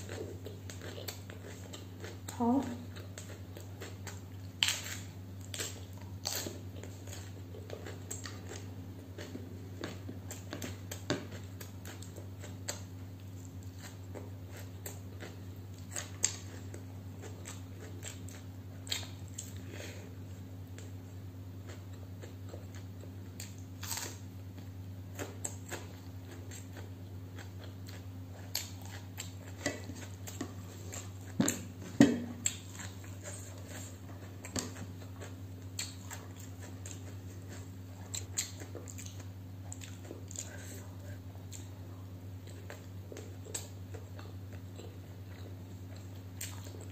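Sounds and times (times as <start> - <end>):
close chewing: 0.0 - 19.7, 20.6 - 46.9.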